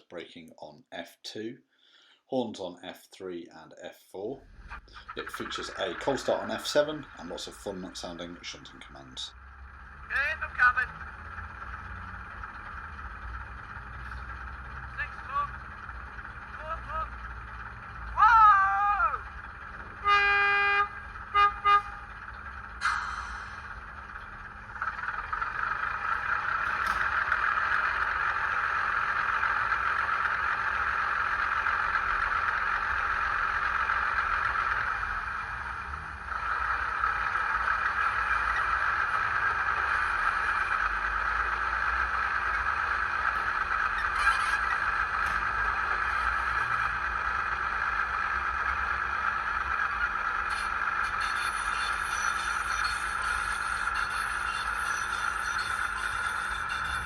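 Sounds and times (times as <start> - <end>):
model train engine sound: 0.0 - 57.0.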